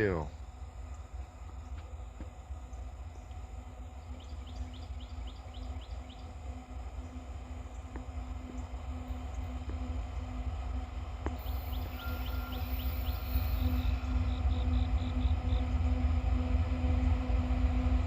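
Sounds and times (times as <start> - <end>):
train locomotive rumble and hum: 0.0 - 18.0.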